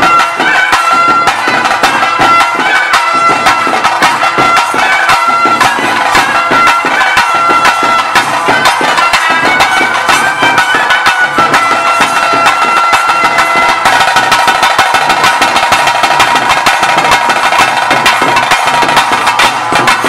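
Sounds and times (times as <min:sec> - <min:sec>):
high reed pipe melody: 0:00.0 - 0:16.2
fast dense drumming: 0:00.0 - 0:20.0.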